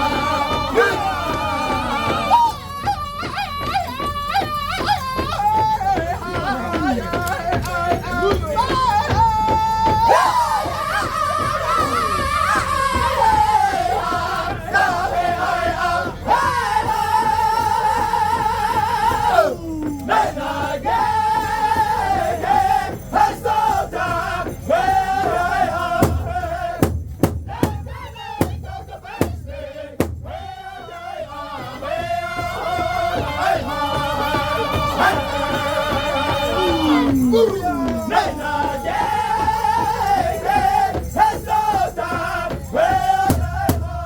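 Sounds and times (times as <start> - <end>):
men singing high long notes: 0.0 - 26.8, 27.5 - 44.0
big drum beating: 0.0 - 31.0, 31.6 - 44.0.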